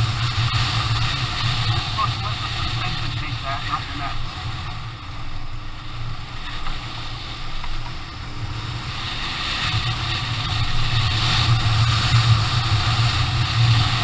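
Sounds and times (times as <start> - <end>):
motorcycle engine running: 0.0 - 14.0
wind noise: 0.0 - 14.0.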